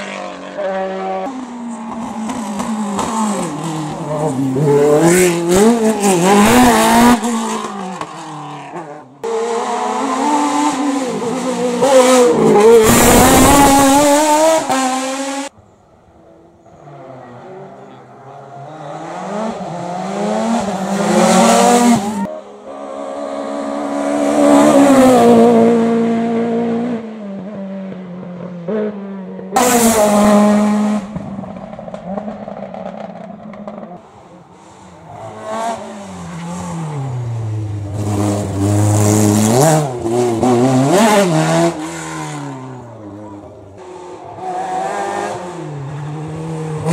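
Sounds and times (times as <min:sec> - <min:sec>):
racing car engines revving: 0:00.0 - 0:46.9.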